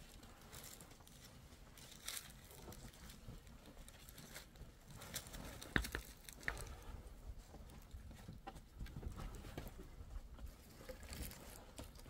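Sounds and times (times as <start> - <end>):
soft rustle: 0.0 - 12.0.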